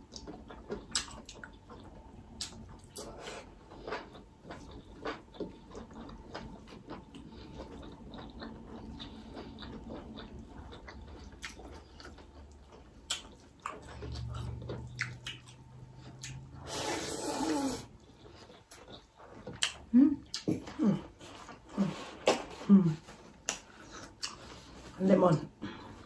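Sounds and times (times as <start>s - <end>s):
chewing and lip smacks: 0.0s - 16.7s, 17.8s - 24.8s
low steady hum: 0.0s - 26.0s.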